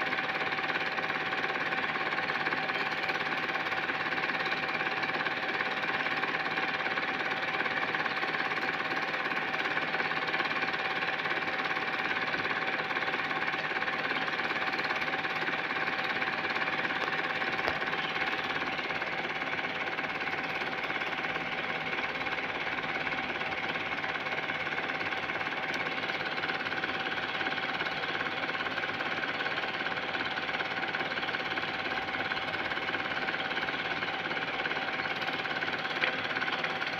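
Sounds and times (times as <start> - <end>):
film projector clatter: 0.0 - 36.9.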